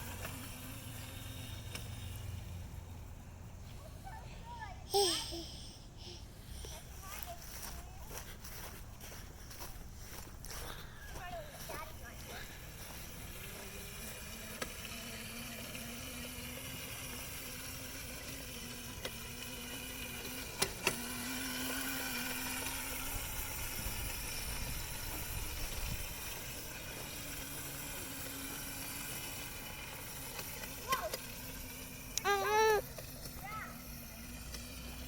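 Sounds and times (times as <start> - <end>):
electric motor whine: 0.0 - 3.5, 6.9 - 35.0.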